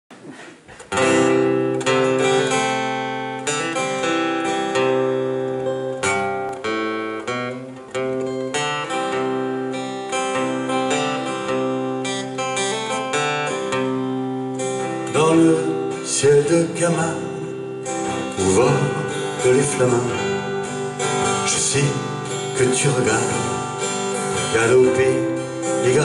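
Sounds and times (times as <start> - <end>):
acoustic guitar strumming: 0.7 - 26.0.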